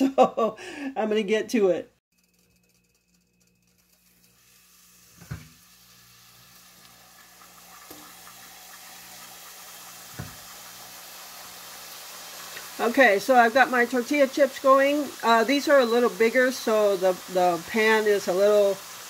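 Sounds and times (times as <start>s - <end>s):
frying in hot oil: 2.1s - 19.0s.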